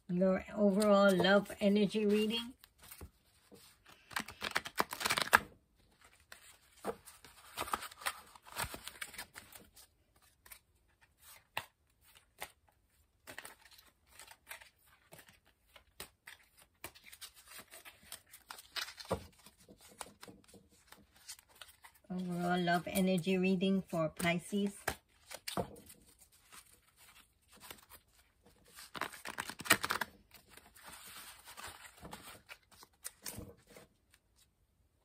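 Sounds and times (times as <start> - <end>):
cards being shuffled: 0.6 - 12.6, 13.2 - 34.2.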